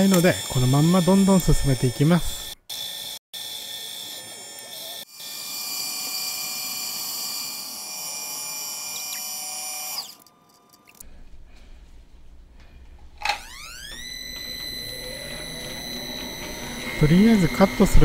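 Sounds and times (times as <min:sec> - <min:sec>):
metal lathe gear whine: 0:00.0 - 0:10.2, 0:13.4 - 0:18.0.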